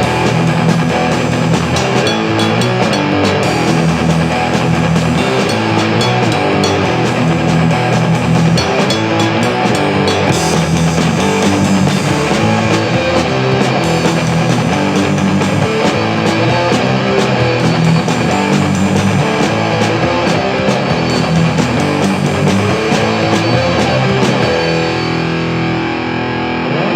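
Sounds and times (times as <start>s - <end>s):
drum kit beat: 0.0s - 25.4s
electric guitar: 0.0s - 26.9s.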